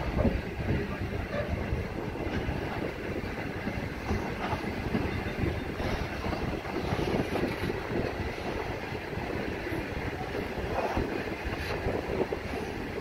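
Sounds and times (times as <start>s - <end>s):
train wheels rumbling on rail: 0.0s - 13.0s
wheels clunking over rail joints: 0.0s - 13.0s.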